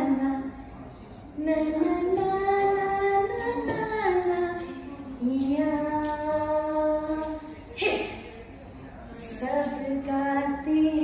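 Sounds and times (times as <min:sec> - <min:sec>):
woman singing: 0:00.0 - 0:00.6, 0:01.4 - 0:08.2, 0:09.1 - 0:11.0.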